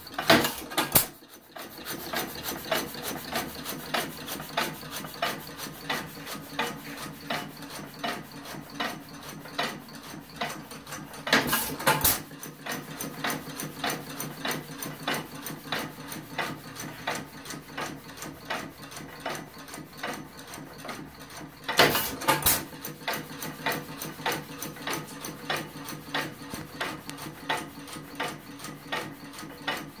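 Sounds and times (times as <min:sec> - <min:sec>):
engine flywheels clicking: 0:00.0 - 0:30.0.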